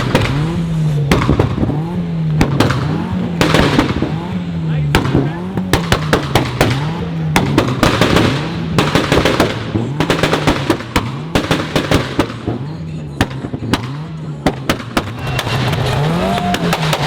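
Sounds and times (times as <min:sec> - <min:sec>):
car engine running: 0:00.0 - 0:17.0
exhaust pops and bangs: 0:00.0 - 0:17.0.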